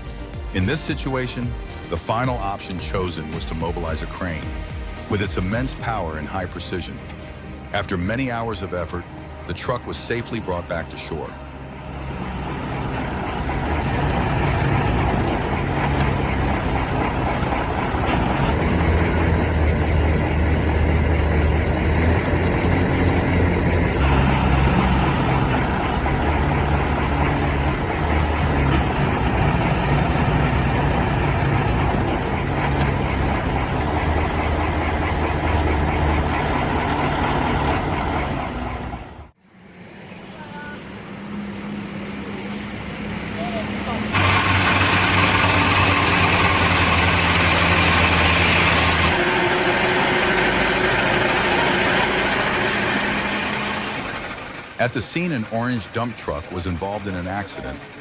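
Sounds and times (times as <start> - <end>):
diesel engine running at low revs: 0.0 - 58.0.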